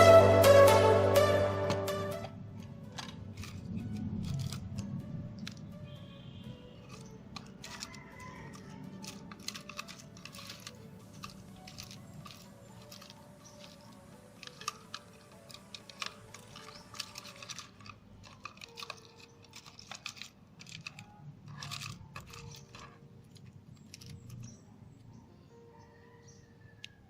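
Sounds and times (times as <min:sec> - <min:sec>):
faint background music: 0:00.0 - 0:27.0
small parts clicking: 0:02.2 - 0:25.1.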